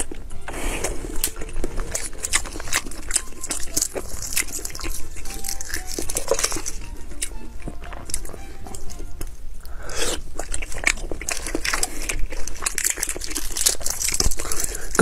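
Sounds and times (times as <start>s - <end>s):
chewing mouth sounds: 0.0s - 15.0s
eggshell cracking and peeling: 1.1s - 9.4s, 10.0s - 15.0s.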